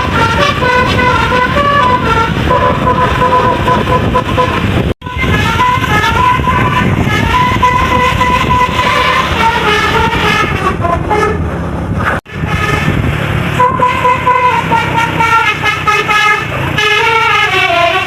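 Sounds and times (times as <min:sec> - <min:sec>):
musical air horn playing a tune: 0:00.0 - 0:11.6, 0:12.2 - 0:18.0
low engine rumble: 0:00.0 - 0:18.0.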